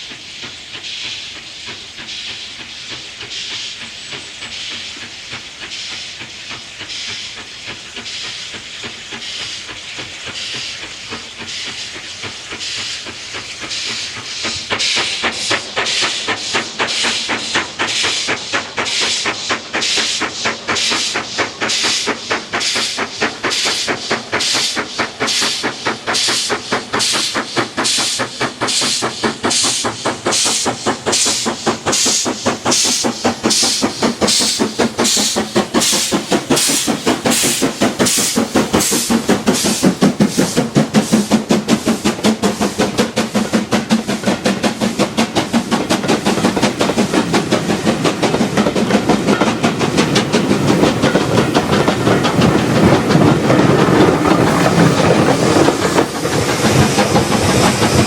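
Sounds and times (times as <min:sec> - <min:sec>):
steam locomotive chuffing: 0:00.0 - 0:58.0
train rumbling and clattering past: 0:00.0 - 0:58.0.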